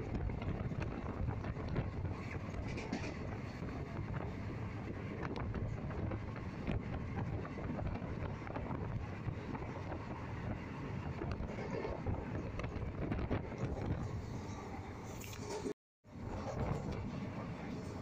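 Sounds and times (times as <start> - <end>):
train rumbling on rails: 0.0 - 18.0
wind buffeting microphone: 0.0 - 18.0.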